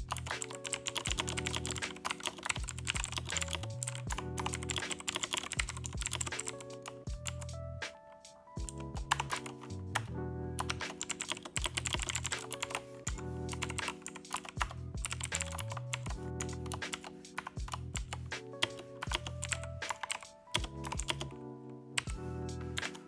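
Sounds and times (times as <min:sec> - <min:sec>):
computer keyboard typing: 0:00.0 - 0:07.4, 0:08.6 - 0:09.6, 0:10.6 - 0:21.3
background music with bass line: 0:00.0 - 0:21.3, 0:22.0 - 0:23.0.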